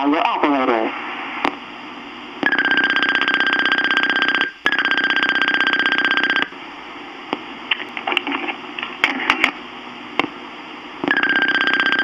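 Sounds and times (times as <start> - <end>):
tape hiss: 0.0 - 12.0.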